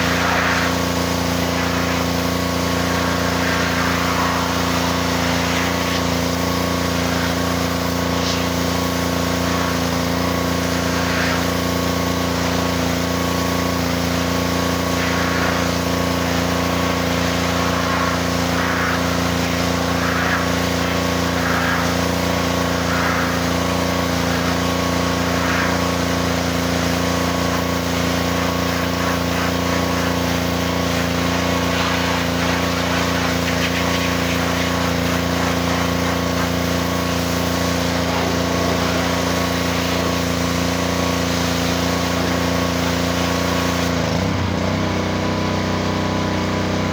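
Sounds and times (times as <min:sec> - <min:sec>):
pressure washer engine running: 0:00.0 - 0:46.9.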